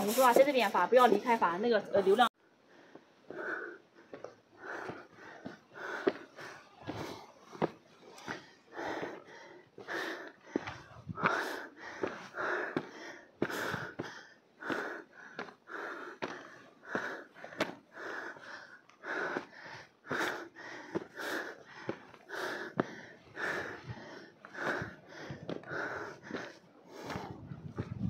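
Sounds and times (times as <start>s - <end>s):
person breathing hard: 2.5s - 28.0s.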